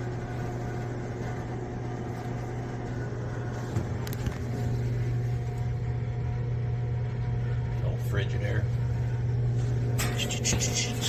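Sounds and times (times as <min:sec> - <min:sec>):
gas furnace motor hum: 0:00.0 - 0:11.0.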